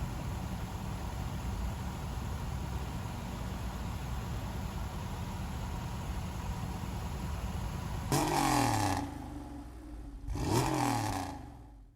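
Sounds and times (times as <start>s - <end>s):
car engine idling and revving: 0.0s - 11.9s.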